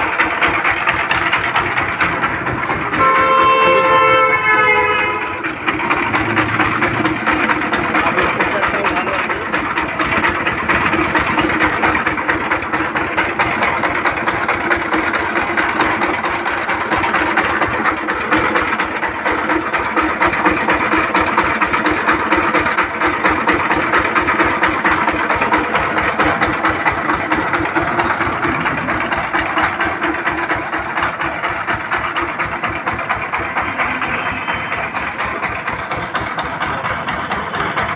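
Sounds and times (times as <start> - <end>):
single-cylinder diesel engine knocking: 0.0 - 37.9.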